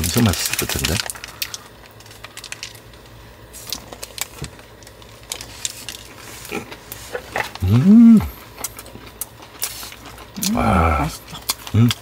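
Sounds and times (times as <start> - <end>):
crackles of eating crisp pastry: 0.0 - 12.0.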